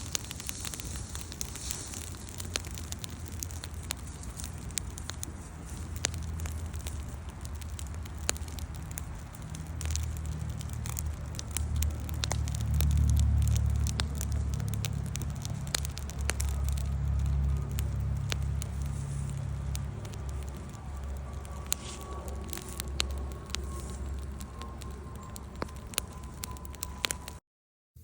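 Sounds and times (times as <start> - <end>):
campfire crackling: 0.0 - 27.4
fire pops and snaps: 0.0 - 27.4
low rumble: 0.0 - 27.4.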